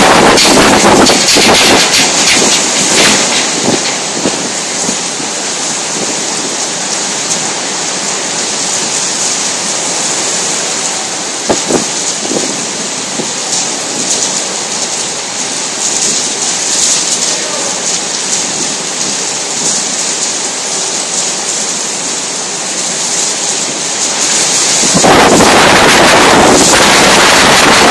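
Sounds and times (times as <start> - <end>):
heavy rain pouring: 0.0 - 27.9
wind gust on microphone: 0.0 - 27.9.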